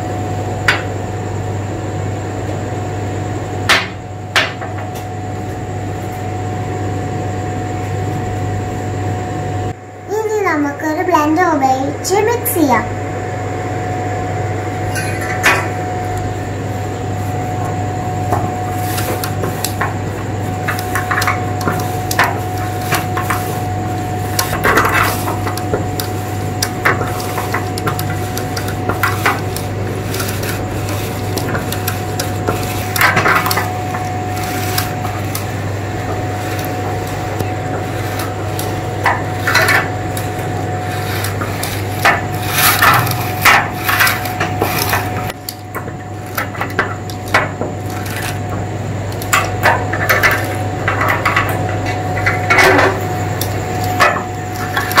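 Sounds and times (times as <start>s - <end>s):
steady hum: 0.0s - 55.0s.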